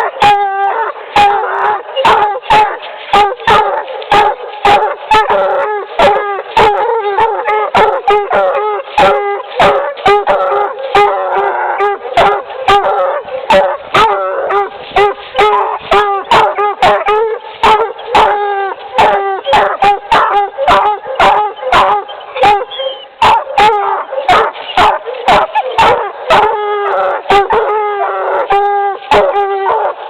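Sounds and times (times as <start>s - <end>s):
hound pups barking and bawling: 0.0s - 30.0s.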